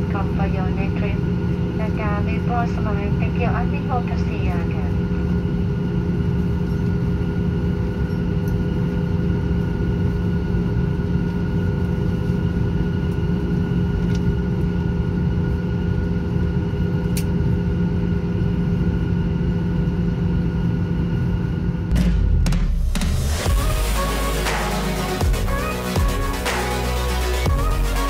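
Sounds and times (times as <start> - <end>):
jet engine rumble: 0.0 - 26.4
jet engine whine: 0.0 - 28.0.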